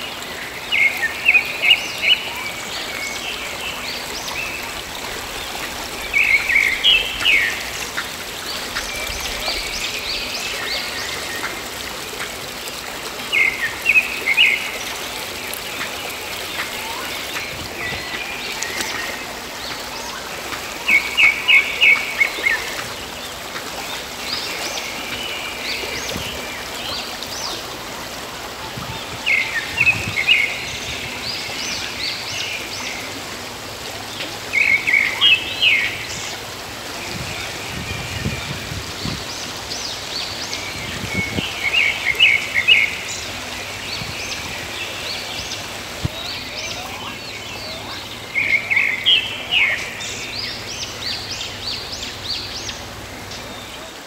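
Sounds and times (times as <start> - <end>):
songbird chirping: 0.0 - 54.0
stream running over stones: 0.0 - 54.0.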